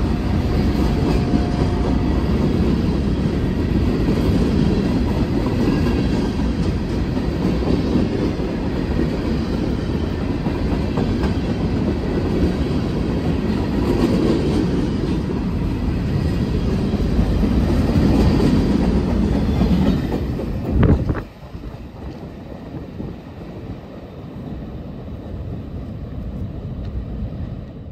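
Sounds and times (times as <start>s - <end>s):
freight train rolling past: 0.0s - 27.9s.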